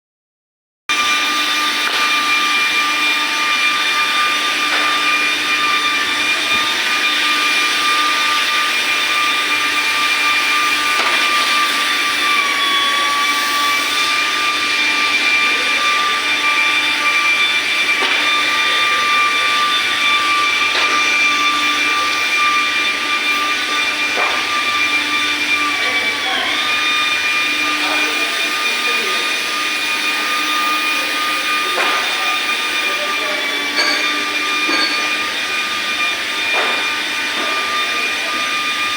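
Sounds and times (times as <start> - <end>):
electric motor whining: 0.9 - 38.9.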